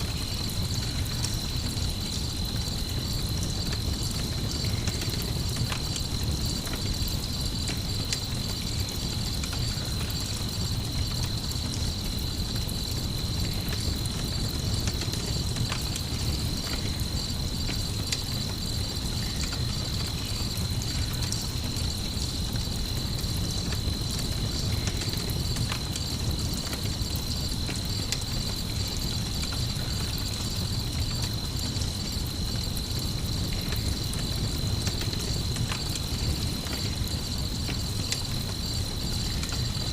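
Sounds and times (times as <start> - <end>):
campfire crackling and popping: 0.0 - 39.9
constant low rumble: 0.0 - 39.9
night insects chirring: 0.0 - 39.9.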